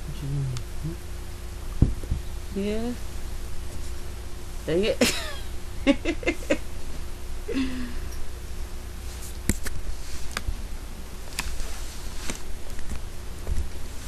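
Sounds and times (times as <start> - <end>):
faint hum: 0.0 - 14.0
low steady rumble: 0.0 - 14.0.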